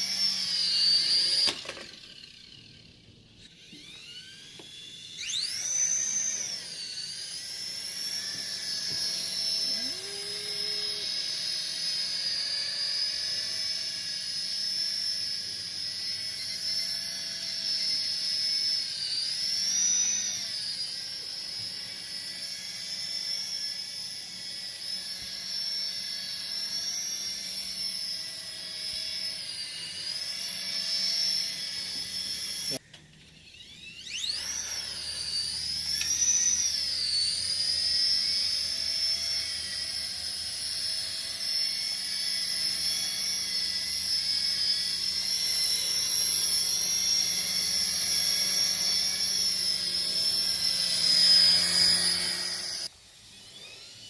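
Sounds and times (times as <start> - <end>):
toy helicopter rotor whine: 0.0 - 54.0.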